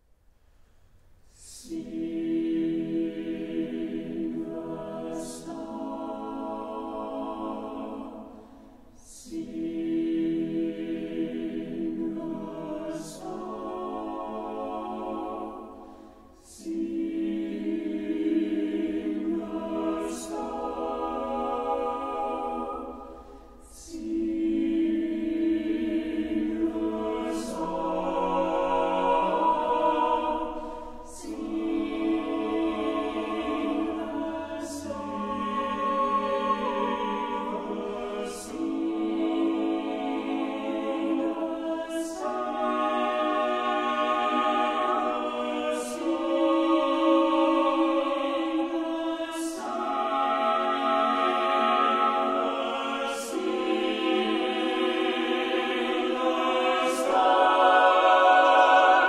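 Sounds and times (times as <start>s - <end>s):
choir singing a cappella: 1.3s - 59.0s.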